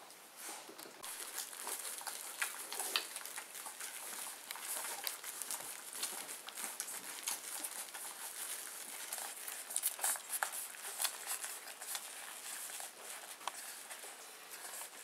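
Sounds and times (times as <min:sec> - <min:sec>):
rustling: 0:00.0 - 0:15.0
puppies suckling wet clicks: 0:00.7 - 0:15.0.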